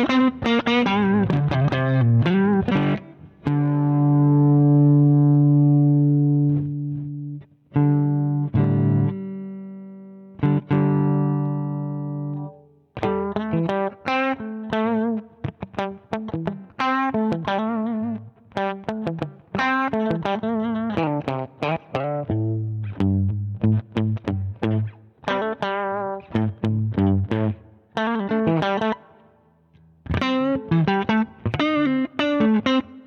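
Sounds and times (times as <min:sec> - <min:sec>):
overdriven electric guitar: 0:00.0 - 0:33.0.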